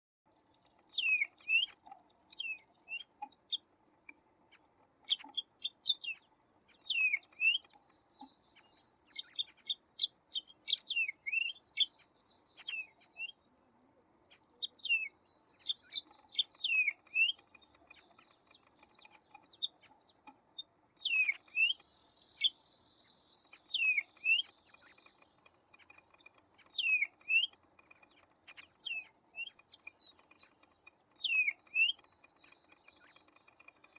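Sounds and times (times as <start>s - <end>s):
birds chirping: 0.3s - 33.9s.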